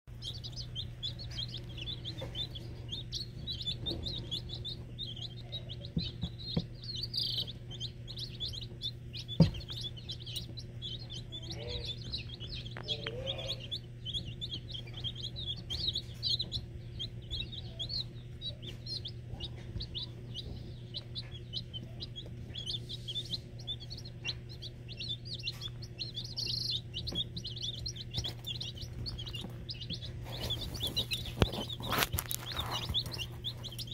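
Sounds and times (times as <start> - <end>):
chicks peeping: 0.1 - 33.9
steady low hum: 0.1 - 33.9.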